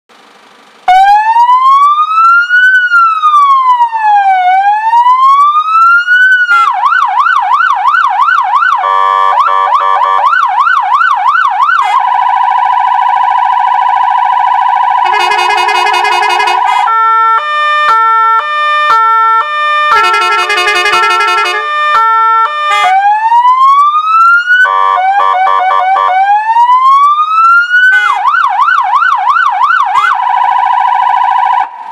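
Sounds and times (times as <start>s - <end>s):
fire engine electronic siren: 0.9s - 31.9s.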